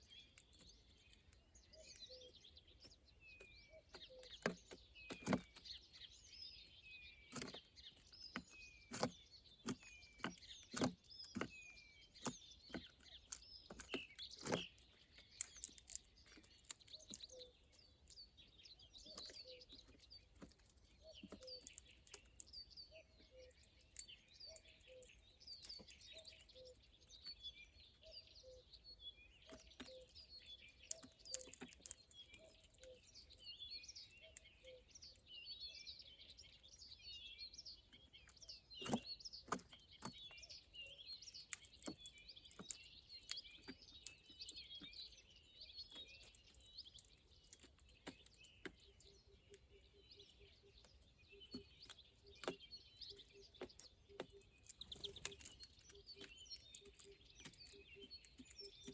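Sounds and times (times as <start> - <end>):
songbirds chirping and twittering: 0.0 - 58.9.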